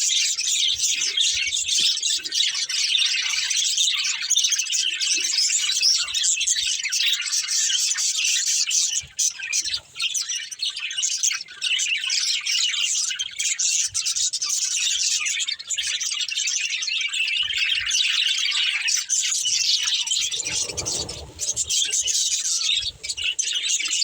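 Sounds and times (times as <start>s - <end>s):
budgerigars chirping and chattering: 0.0s - 24.0s.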